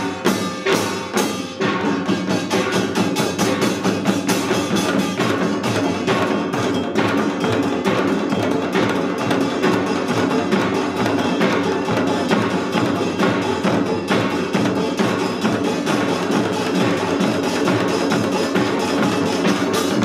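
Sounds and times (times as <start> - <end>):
percussion ensemble drumming: 0.0 - 20.0.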